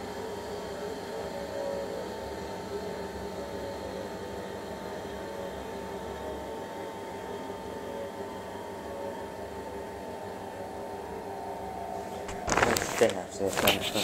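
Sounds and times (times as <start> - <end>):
faint steady whine: 0.0 - 14.0.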